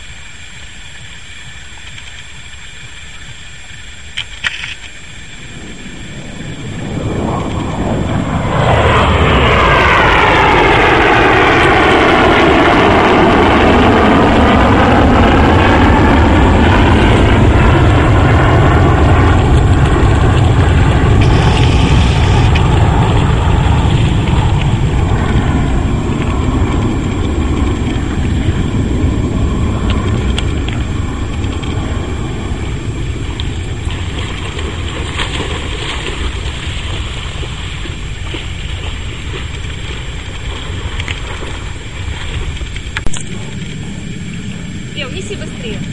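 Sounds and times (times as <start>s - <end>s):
aircraft engine passing overhead: 0.0s - 45.9s.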